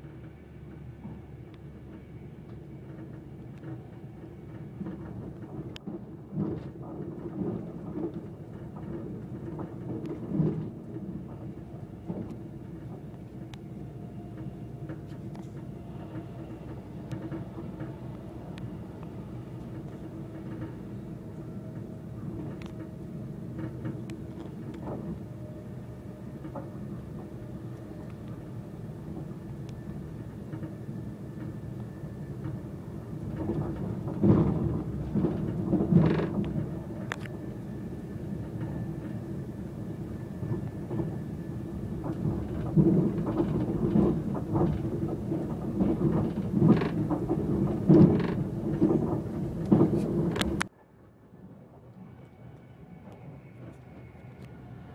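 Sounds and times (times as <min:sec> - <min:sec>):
train interior rumble and hum: 0:00.0 - 0:54.9
clunks and rattles: 0:00.2 - 0:50.7.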